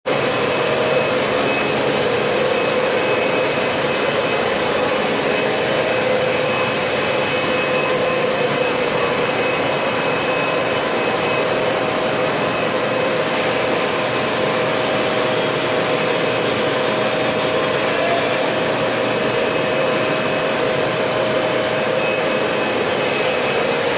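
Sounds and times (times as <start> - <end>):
floor cleaning machine running: 0.0 - 23.9
high whine: 0.1 - 23.9.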